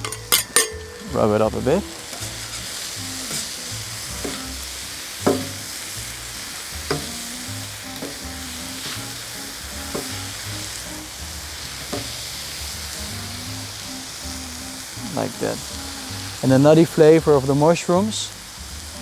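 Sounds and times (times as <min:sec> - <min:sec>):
mushrooms sizzling in a pan: 0:00.0 - 0:19.0
stirring in a pan: 0:00.0 - 0:19.0.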